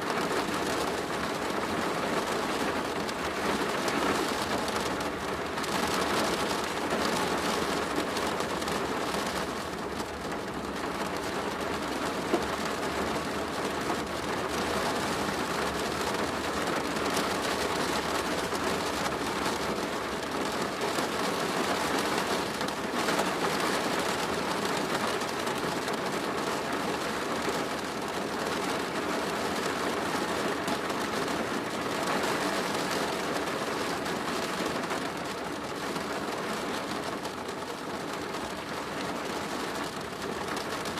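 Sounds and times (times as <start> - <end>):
rain drumming on a plastic roof: 0.0 - 40.9.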